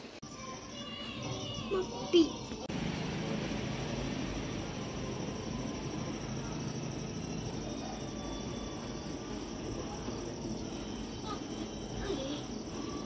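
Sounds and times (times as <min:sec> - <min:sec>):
crickets chirping: 0:00.2 - 0:13.0.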